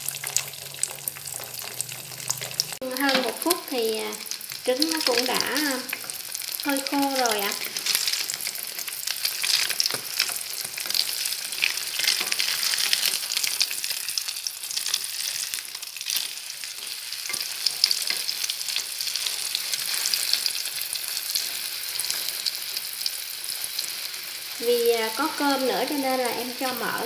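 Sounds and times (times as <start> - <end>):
eggs sizzling in fat: 0.0 - 27.0.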